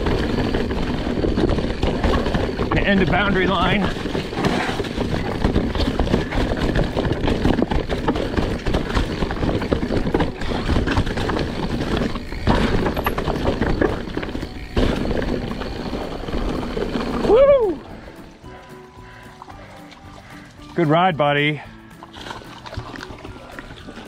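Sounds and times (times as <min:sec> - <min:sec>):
bike rattling over rocks: 0:00.0 - 0:24.0.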